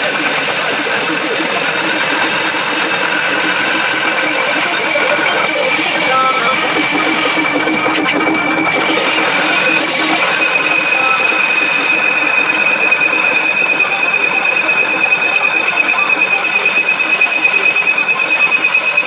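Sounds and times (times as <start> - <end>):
lathe tool squealing on metal: 0.0 - 19.0.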